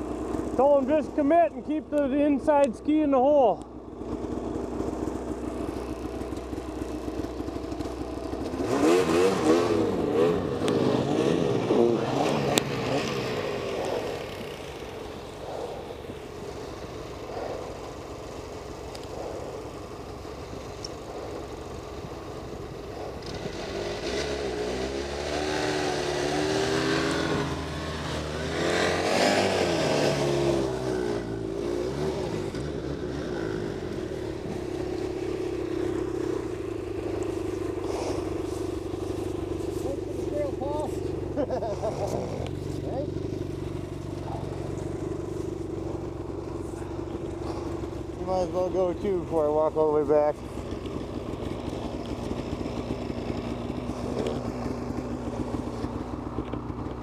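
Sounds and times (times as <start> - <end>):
snowmobile engines revving: 0.0 - 57.0.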